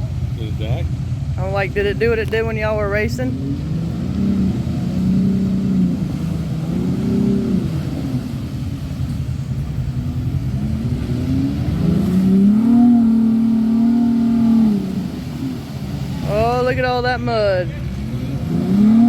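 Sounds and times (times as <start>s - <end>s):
vehicle engine revving: 0.0s - 19.0s.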